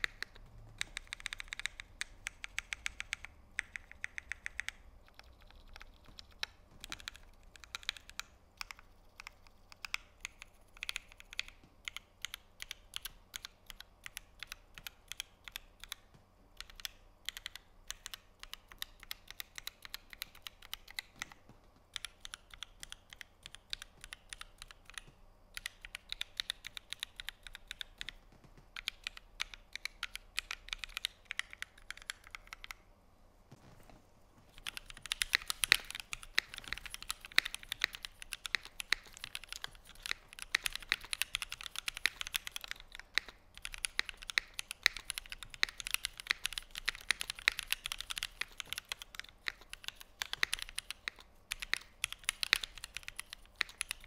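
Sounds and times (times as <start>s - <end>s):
mechanical keyboard keystrokes: 0.0s - 32.8s, 34.5s - 54.0s.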